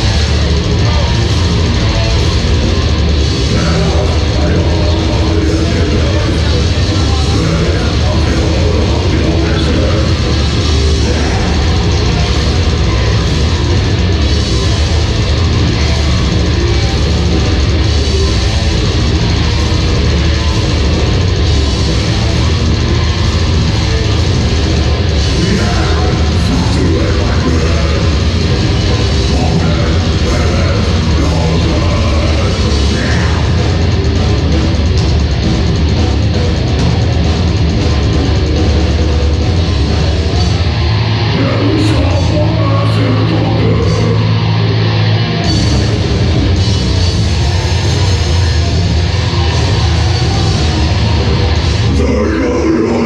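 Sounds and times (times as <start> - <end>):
death metal band playing live: 0.0 - 53.0.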